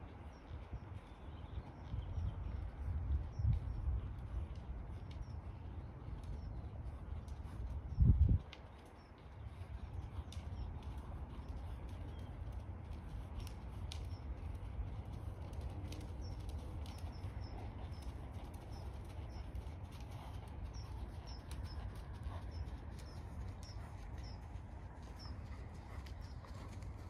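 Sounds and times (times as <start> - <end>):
horse hooves walking: 0.0 - 27.0
low steady rumble: 0.0 - 27.0.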